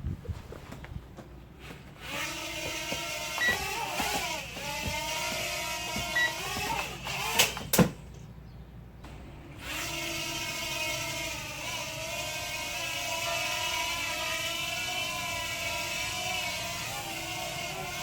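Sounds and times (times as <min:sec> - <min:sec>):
toy drone motors whining: 0:01.6 - 0:08.0, 0:09.3 - 0:18.0.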